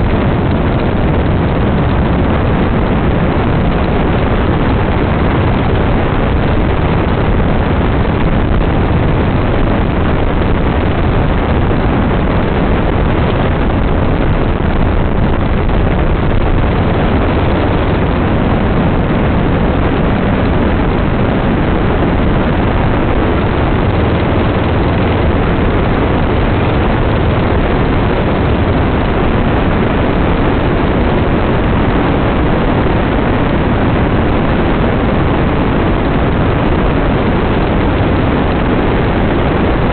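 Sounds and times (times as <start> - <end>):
dune buggy engine: 0.0 - 39.9
rushing air: 0.0 - 39.9.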